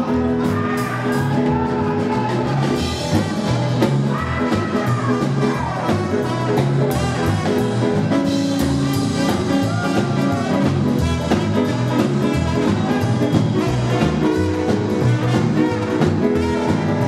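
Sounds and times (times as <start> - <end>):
rockabilly band playing: 0.0 - 17.0
trumpet lead: 0.0 - 17.0.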